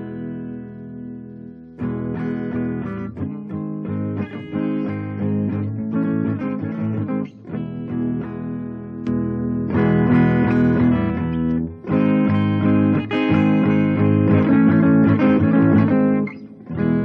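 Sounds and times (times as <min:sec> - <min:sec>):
guitar plucked notes and chords: 0:00.0 - 0:17.0.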